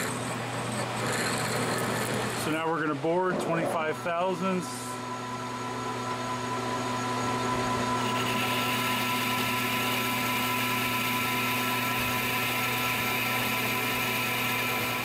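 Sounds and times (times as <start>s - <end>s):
high-pitched metal cutting noise: 0.0s - 12.8s
lathe humming: 0.0s - 15.0s.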